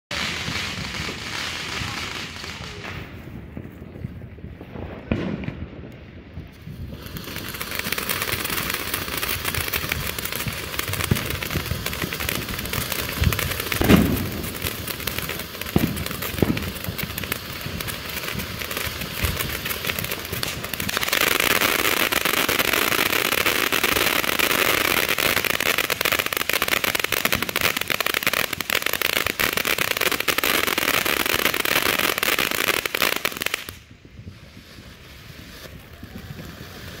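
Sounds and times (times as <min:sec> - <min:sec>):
firework fountain hissing: 0:06.5 - 0:37.0.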